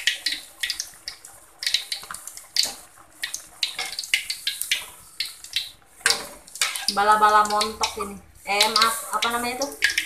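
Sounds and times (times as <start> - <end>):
deep-frying sizzling and crackling: 0.0 - 10.0.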